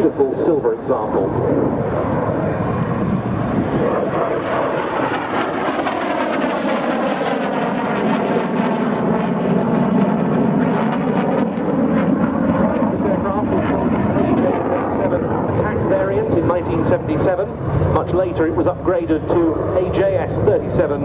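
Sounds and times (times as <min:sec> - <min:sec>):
jet aircraft flying past: 0:00.0 - 0:21.0.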